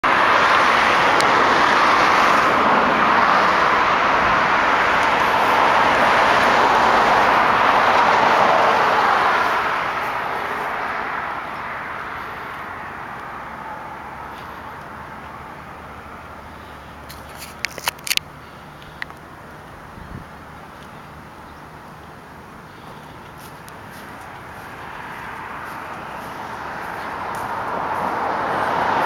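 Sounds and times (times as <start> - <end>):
road traffic rushing: 0.0 - 29.0.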